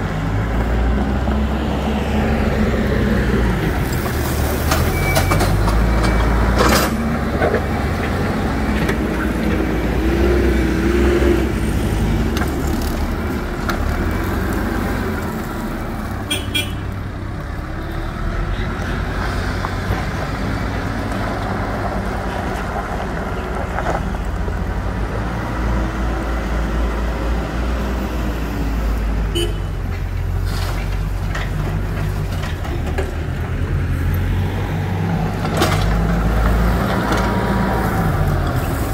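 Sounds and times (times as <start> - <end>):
backhoe diesel engines rumbling: 0.0 - 38.9.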